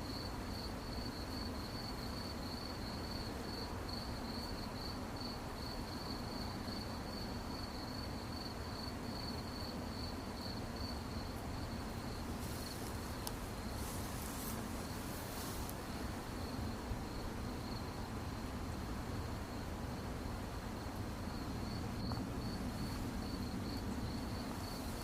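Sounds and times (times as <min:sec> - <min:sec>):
crickets chirping: 0:00.0 - 0:25.0
low background hiss: 0:00.0 - 0:25.0.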